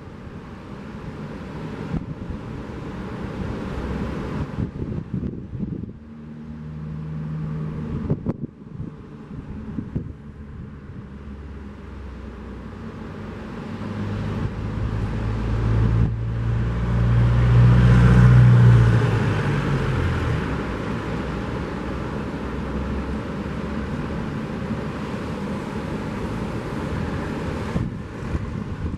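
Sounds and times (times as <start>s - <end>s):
surf washing: 0.0s - 28.9s
vehicle engine passing: 0.6s - 28.9s.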